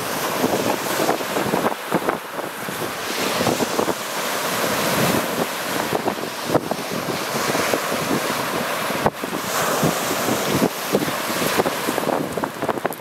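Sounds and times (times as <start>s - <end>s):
waves breaking on pebbly shore: 0.0s - 13.0s
wind buffeting microphone: 0.0s - 13.0s.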